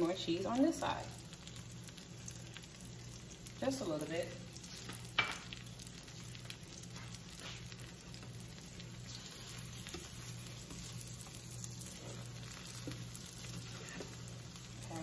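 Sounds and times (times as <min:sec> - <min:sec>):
low continuous hum: 0:00.0 - 0:15.0
omelette sizzling in a frying pan: 0:00.0 - 0:15.0.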